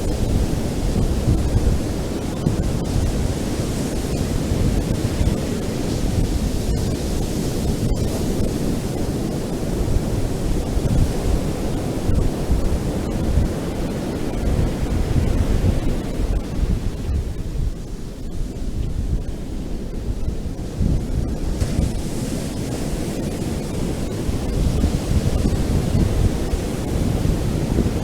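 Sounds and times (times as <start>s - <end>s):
ocean surf washing on beach: 0.0s - 28.0s
wind rumbling on microphone: 0.0s - 28.0s.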